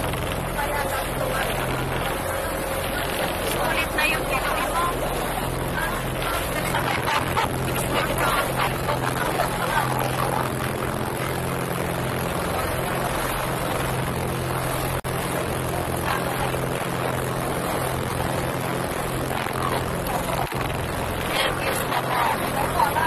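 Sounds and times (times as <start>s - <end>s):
boat engine humming: 0.0s - 23.0s
water washing: 0.0s - 23.0s.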